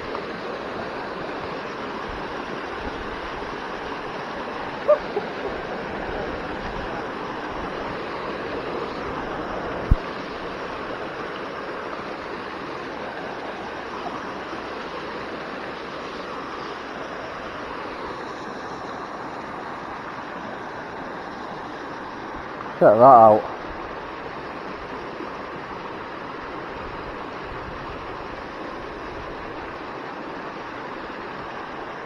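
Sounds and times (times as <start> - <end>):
running water: 0.0 - 32.0.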